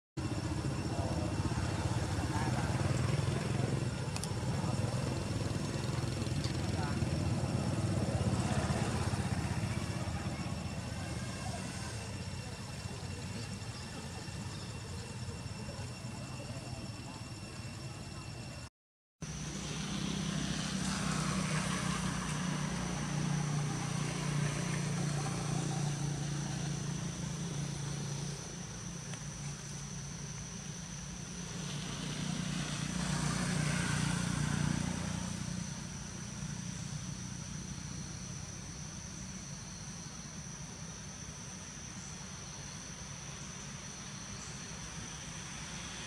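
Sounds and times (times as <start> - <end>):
insects droning: 0.2 - 46.0.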